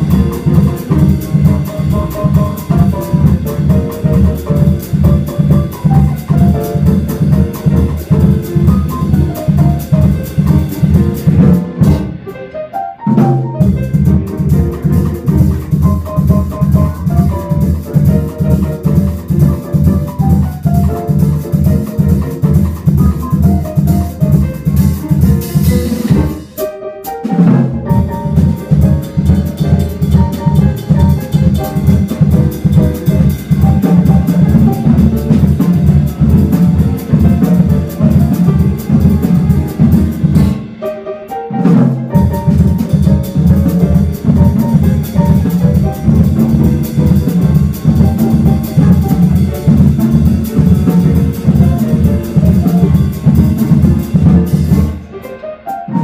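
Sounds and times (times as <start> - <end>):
jazz piano trio playing: 0.0 - 56.0.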